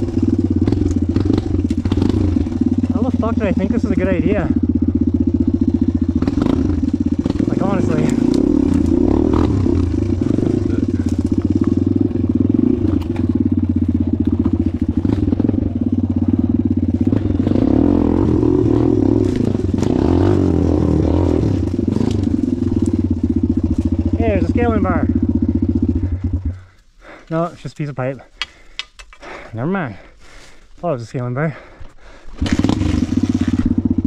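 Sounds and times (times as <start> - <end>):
dirt bike engine running: 0.0 - 30.4, 31.5 - 34.0.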